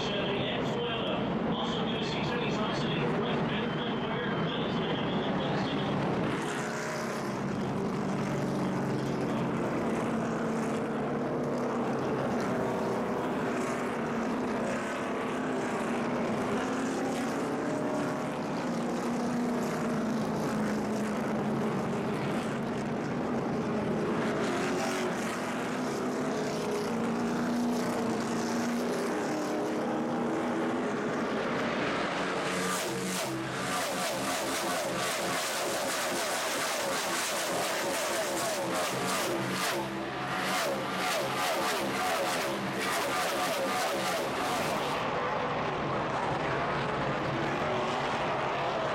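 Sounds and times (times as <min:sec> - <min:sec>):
race cars speeding past: 0:00.0 - 0:48.9.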